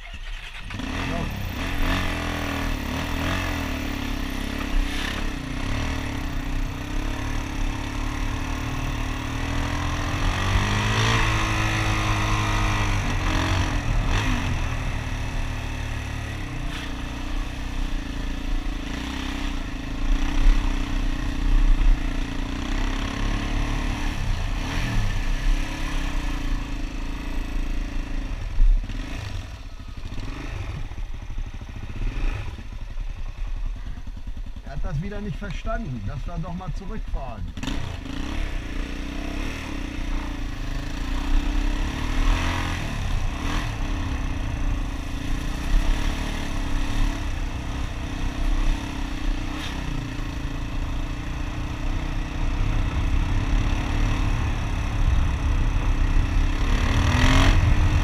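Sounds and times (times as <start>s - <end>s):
motorcycle engine running and revving: 0.0s - 58.0s.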